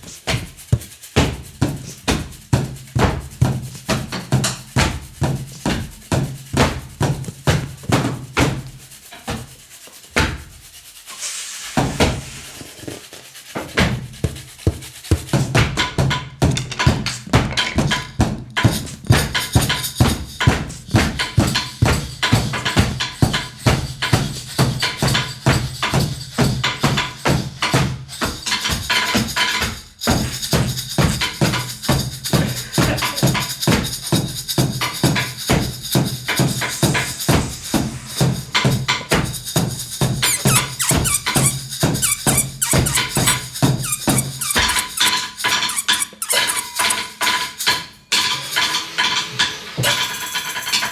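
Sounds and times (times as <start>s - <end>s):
percussion jam: 0.0s - 48.6s.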